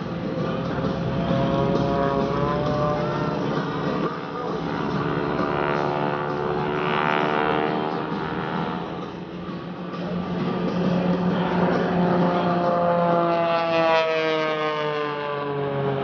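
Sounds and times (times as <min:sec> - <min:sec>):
propeller planes droning overhead: 0:00.0 - 0:16.0.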